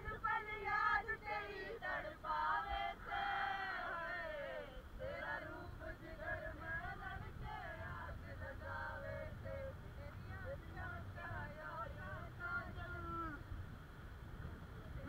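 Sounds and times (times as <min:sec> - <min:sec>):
voices singing together: 0:00.0 - 0:13.4
wind: 0:00.0 - 0:15.0.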